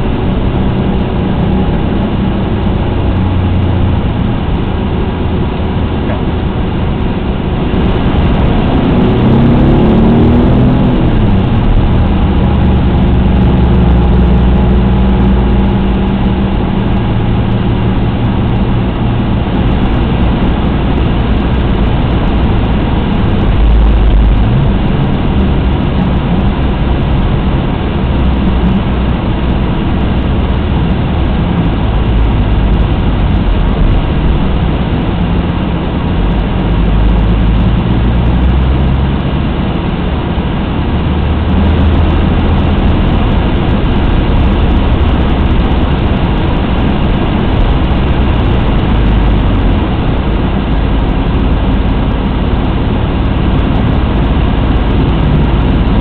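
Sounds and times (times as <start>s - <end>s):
car engine drone: 0.0s - 56.0s
road noise: 0.0s - 56.0s.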